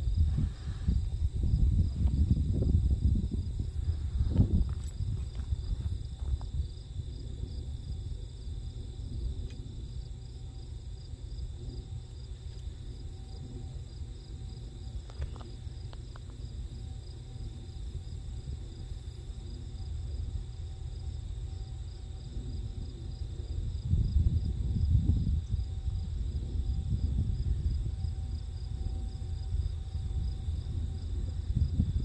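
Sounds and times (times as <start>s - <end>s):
field insects chirping: 0.0s - 32.0s.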